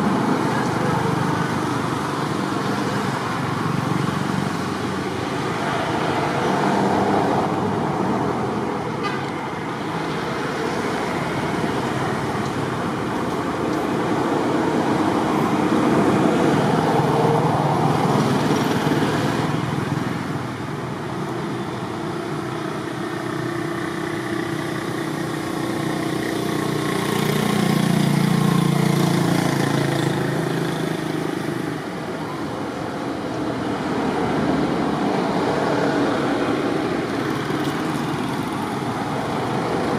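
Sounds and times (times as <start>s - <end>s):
road traffic passing: 0.0s - 39.9s.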